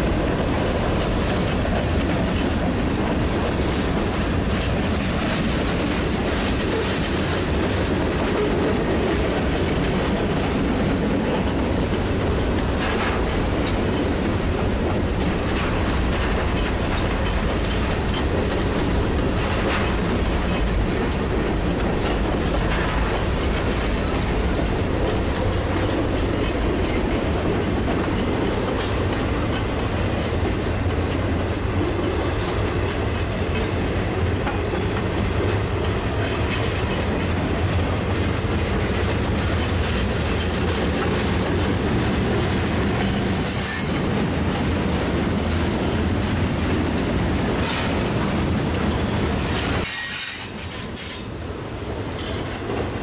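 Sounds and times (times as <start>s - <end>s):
steel wheels rumbling on rails: 0.0s - 53.0s
wheels clanking over rail joints: 0.0s - 53.0s.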